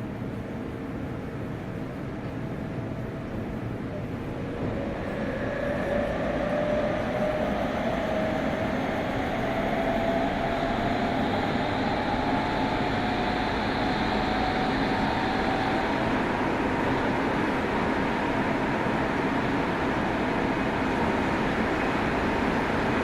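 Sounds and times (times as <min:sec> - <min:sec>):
wheel and rail noise: 0:01.4 - 0:23.0
electric train motor whine: 0:04.3 - 0:23.0.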